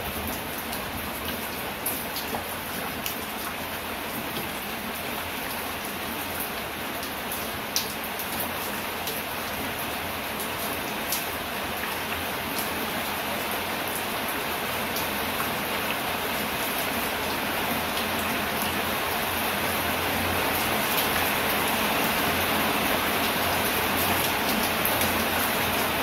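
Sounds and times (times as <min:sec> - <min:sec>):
rain on leaves: 0:00.0 - 0:26.0.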